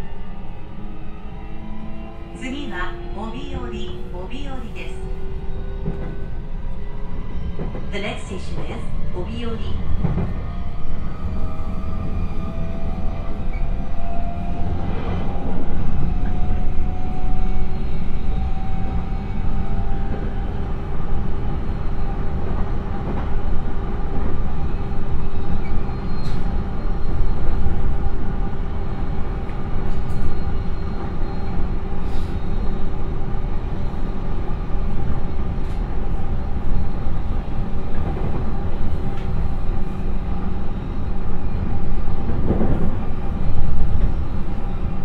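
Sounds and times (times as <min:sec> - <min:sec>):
train wheels humming drone: 0:00.0 - 0:45.0.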